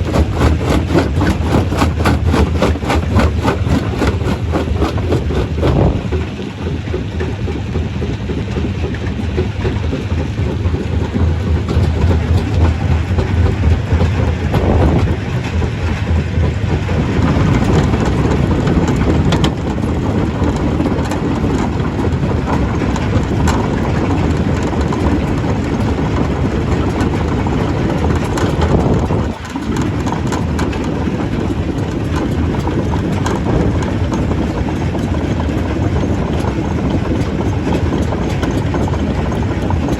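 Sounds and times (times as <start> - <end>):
stone crusher running: 0.0 - 32.2.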